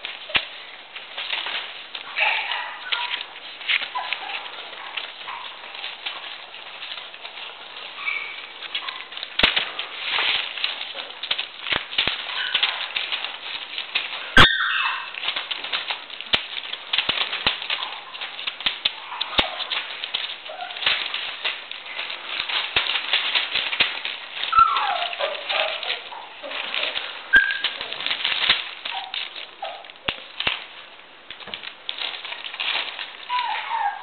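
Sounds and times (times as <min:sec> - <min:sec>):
newspaper rustling and crackling: 0:00.0 - 0:34.0
puppies scrambling: 0:00.0 - 0:34.0.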